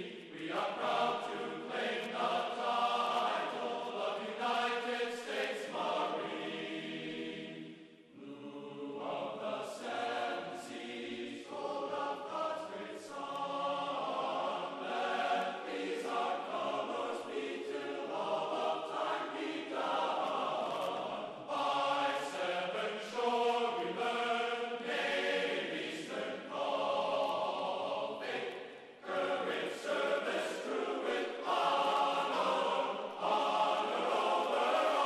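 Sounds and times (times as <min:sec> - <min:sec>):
choir singing: 0:00.0 - 0:35.0.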